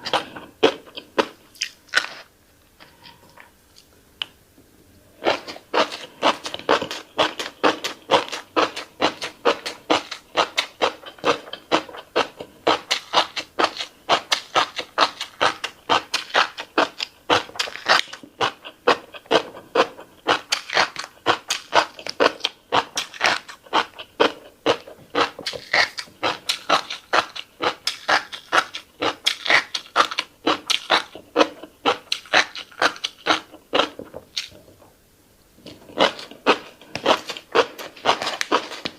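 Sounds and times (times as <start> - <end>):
person chewing and smacking: 0.0 - 4.4, 5.2 - 34.7, 35.6 - 38.9.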